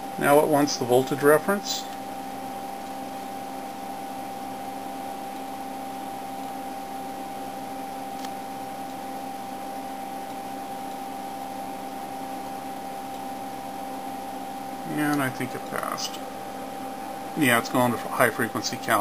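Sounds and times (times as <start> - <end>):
constant electronic whine: 0.0 - 19.0
cooling fans whirring: 0.0 - 19.0.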